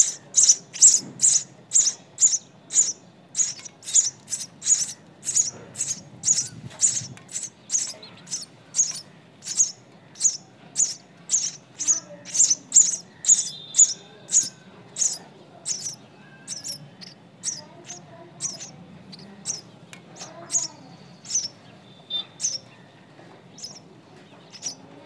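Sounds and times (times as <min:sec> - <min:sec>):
nestling birds chirping: 0:00.0 - 0:25.0.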